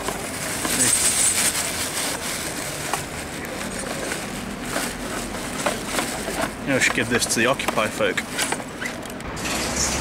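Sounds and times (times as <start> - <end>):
hands rummaging through cloth bag: 0.0 - 9.2.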